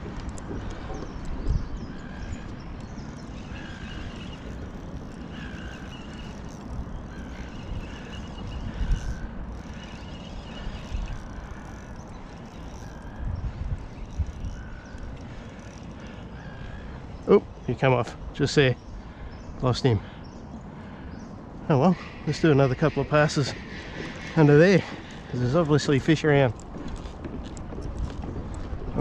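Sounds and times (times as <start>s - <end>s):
wind rumbling on microphone: 0.0s - 19.6s, 20.2s - 29.0s.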